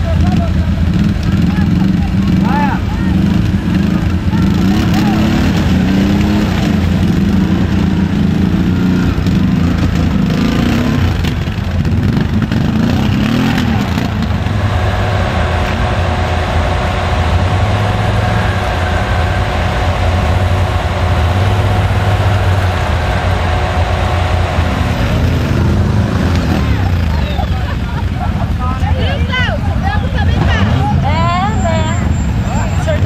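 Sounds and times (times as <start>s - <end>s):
off-road vehicle engines revving: 0.0s - 33.0s.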